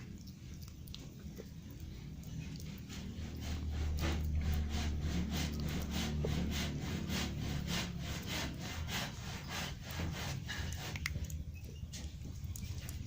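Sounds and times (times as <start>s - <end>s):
kitten chewing crunching bites: 0.0s - 13.0s
low steady hum: 0.0s - 13.0s.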